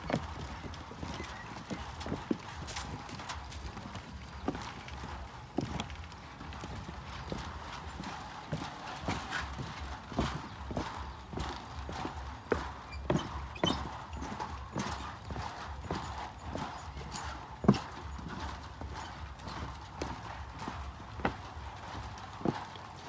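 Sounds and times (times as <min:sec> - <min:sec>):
footsteps on wooden planks: 0:00.0 - 0:23.0.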